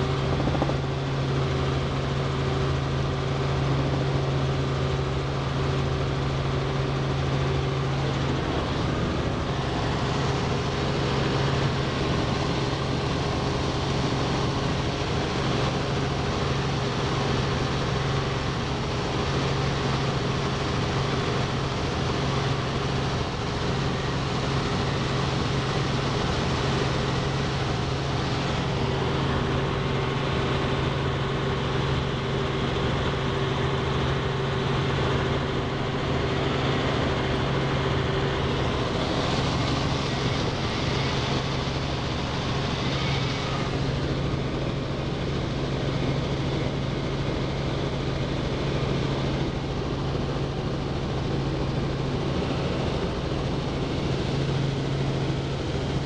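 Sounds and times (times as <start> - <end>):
helicopter drone inside cabin: 0.0 - 56.0.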